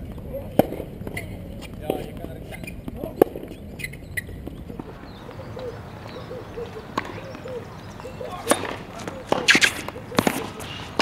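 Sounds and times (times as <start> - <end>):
tennis racket hitting ball: 0.0 - 11.0
soft bird calls: 0.2 - 11.0.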